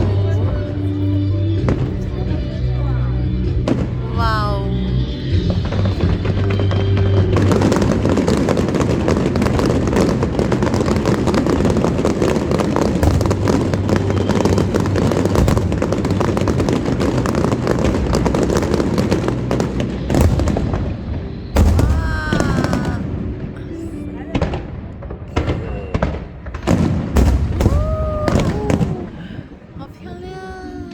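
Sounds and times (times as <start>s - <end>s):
deep fireworks booms: 0.0s - 30.0s
fireworks crackling and popping: 1.6s - 30.4s.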